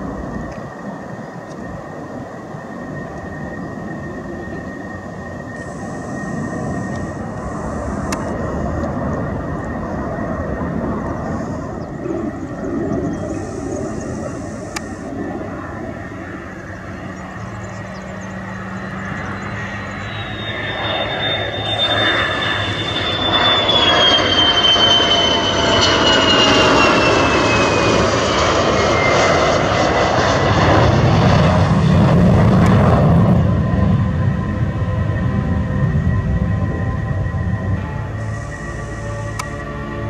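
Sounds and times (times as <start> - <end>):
low rumble: 0.0 - 2.3, 2.9 - 40.0
jet engine: 0.0 - 40.0
jet whine falling in pitch: 0.0 - 40.0.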